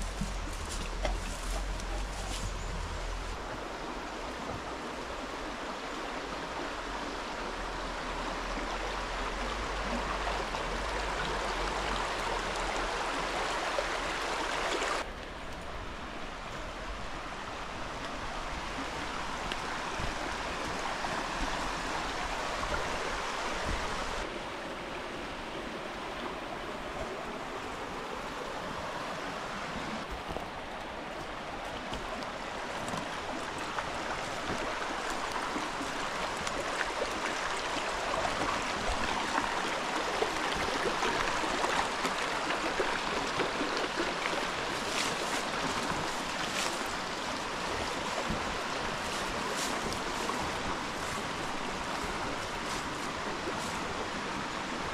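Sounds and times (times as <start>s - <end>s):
stream babbling over stones: 0.0s - 54.9s.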